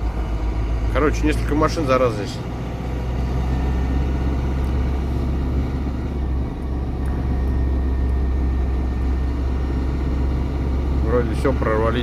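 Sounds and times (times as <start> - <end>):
road noise: 0.0 - 12.0
truck diesel engine drone: 0.0 - 12.0.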